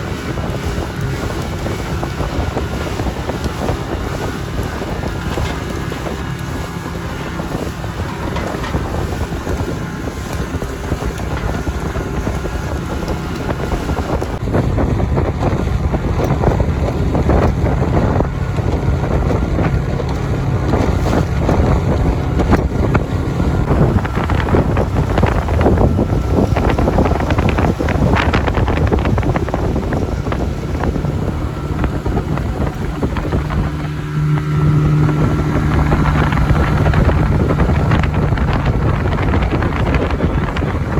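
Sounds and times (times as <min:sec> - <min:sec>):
motorboat engine running: 0:00.0 - 0:40.9
wind buffeting microphone: 0:00.0 - 0:40.9.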